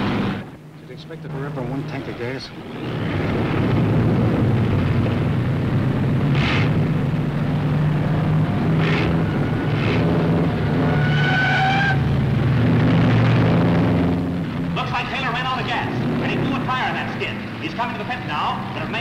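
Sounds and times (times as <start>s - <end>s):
racing car engine droning: 0.0s - 19.0s.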